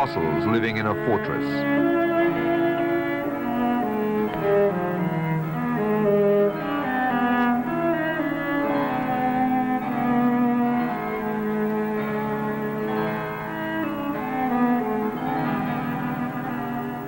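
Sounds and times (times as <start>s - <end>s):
bowed strings music: 0.0s - 17.0s.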